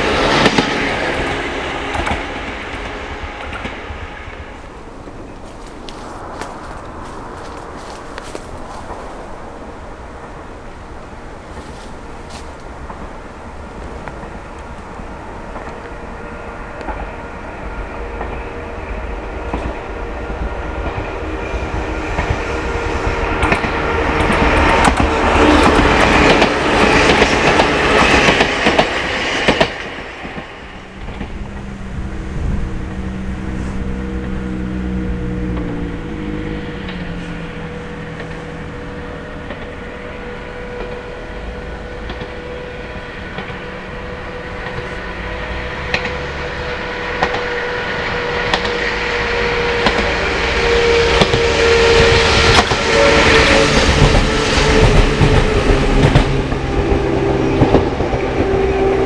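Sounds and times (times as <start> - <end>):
train wheels clicking over rails: 0.0 - 10.4, 11.0 - 17.2, 17.8 - 32.1, 32.7 - 59.0
train running rumble: 0.0 - 59.0.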